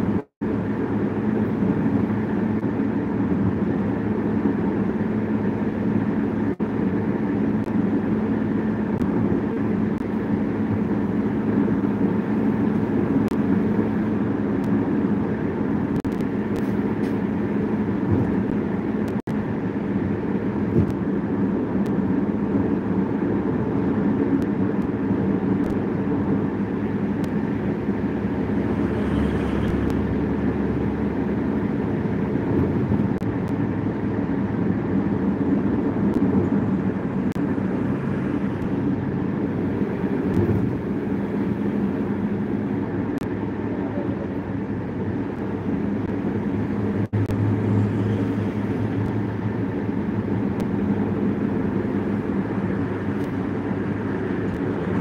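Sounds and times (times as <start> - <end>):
car road noise drone: 0.0 - 55.0.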